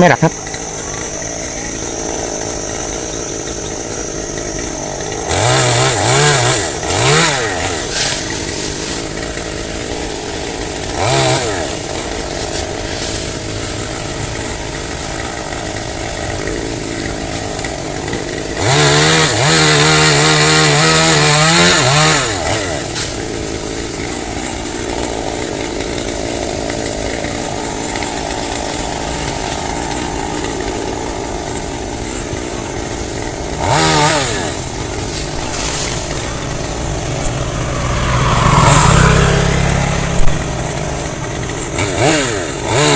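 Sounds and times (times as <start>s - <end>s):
chainsaw idling and revving: 0.0s - 42.9s.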